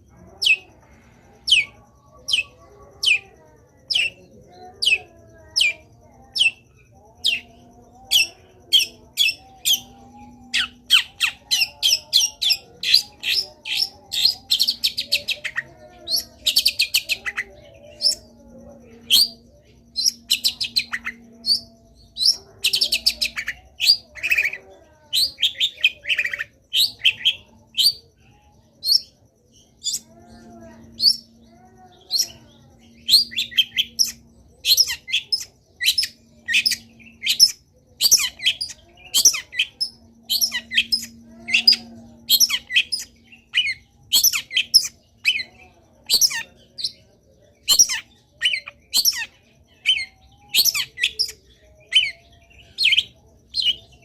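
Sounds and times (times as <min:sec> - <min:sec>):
bird chattering song: 0:00.0 - 0:54.0.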